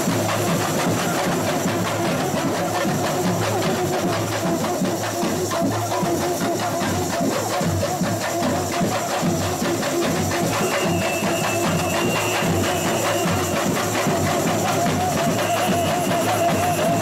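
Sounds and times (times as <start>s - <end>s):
samba percussion playing: 0.0s - 17.0s.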